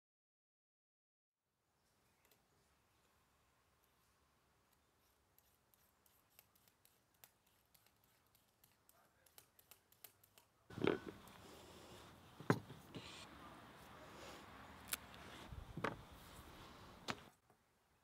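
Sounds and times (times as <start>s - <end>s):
background hiss: 1.6s - 18.0s.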